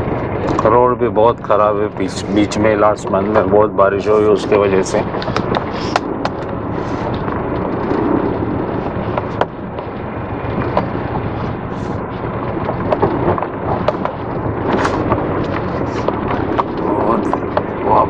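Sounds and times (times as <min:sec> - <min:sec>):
vehicle road noise rumble: 0:00.0 - 0:18.0.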